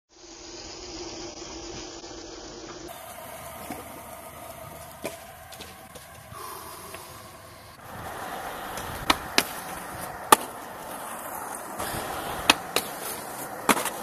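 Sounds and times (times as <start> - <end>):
low hum: 0.2 - 14.0.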